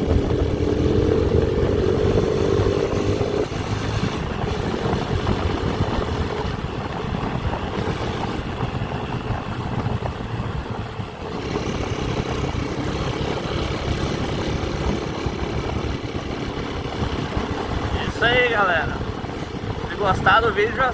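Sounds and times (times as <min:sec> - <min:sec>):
motorcycle engine running: 0:00.0 - 0:20.9
wind noise on microphone: 0:00.0 - 0:20.9.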